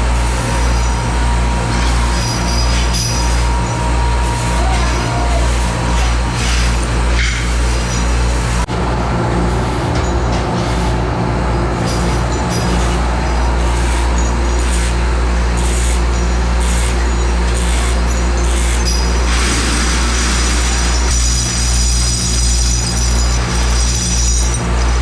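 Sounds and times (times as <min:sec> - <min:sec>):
sharp high machine noise: 0:00.0 - 0:08.7, 0:09.5 - 0:25.0
machine noise: 0:00.0 - 0:25.0.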